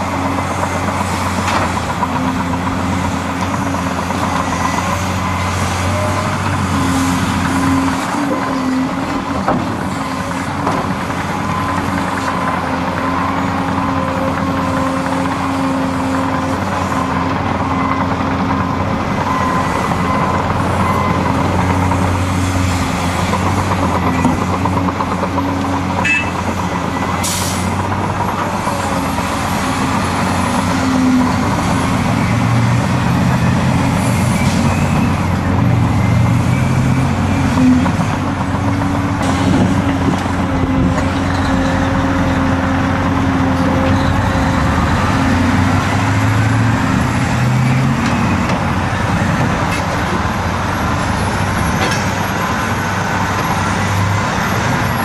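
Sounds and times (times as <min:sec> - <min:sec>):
heavy diesel engines working: 0:00.0 - 0:55.0.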